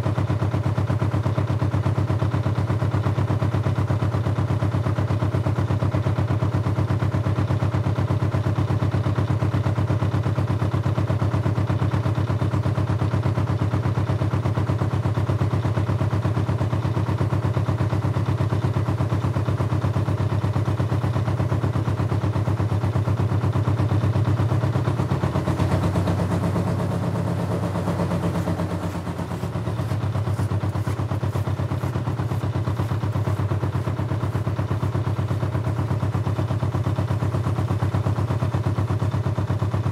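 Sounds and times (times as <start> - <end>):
engine chugging: 0.0 - 39.9.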